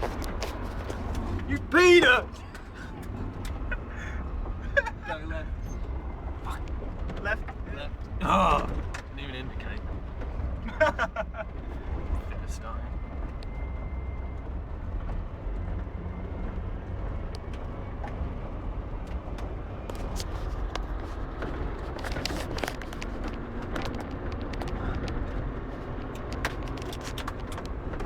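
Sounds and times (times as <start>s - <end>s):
rally car engine rumbling: 0.0s - 28.0s.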